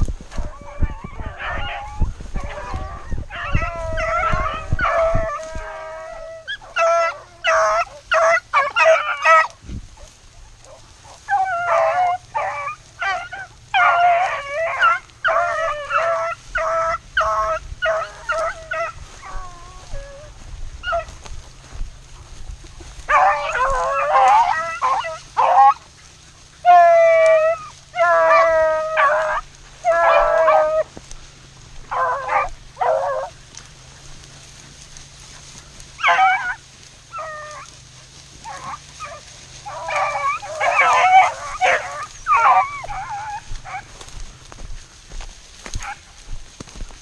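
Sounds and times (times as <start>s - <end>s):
hounds baying: 0.0s - 47.0s.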